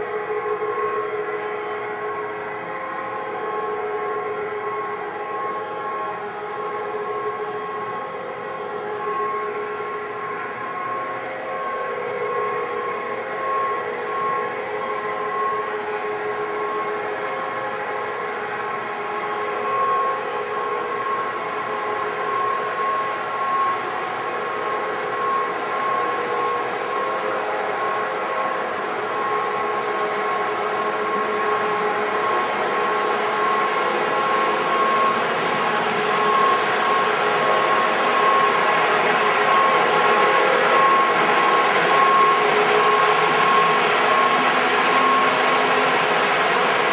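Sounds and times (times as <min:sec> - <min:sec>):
model train running: 0:00.0 - 0:46.9.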